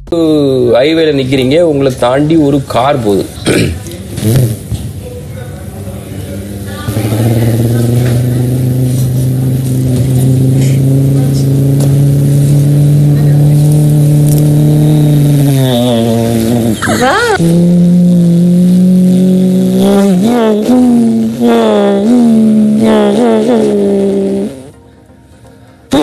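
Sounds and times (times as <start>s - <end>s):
man imitating car engine: 0.0s - 4.7s, 5.7s - 24.8s.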